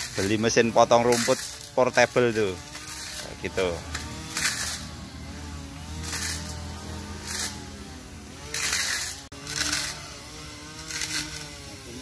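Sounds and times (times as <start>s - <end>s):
grass trimmer whining: 0.0s - 12.0s
trimmer shredding leaves: 0.0s - 12.0s.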